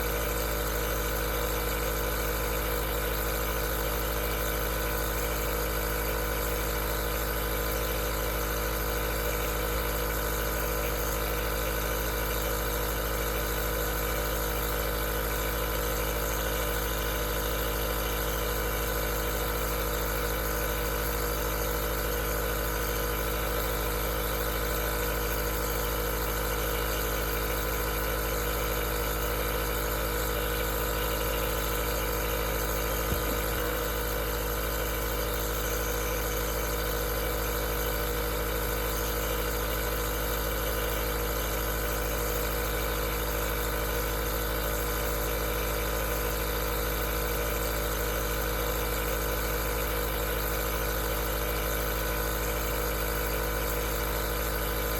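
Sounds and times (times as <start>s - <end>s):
compressor humming: 0.0s - 54.9s.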